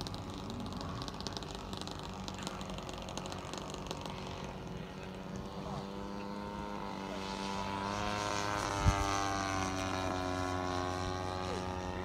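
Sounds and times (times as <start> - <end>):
model aircraft engine flying past: 0.0 - 12.0.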